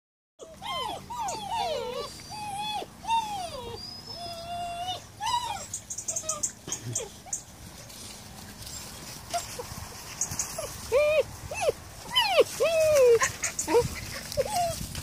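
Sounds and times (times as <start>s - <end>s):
puppies whining and yelping: 0.4s - 7.7s, 8.6s - 15.0s.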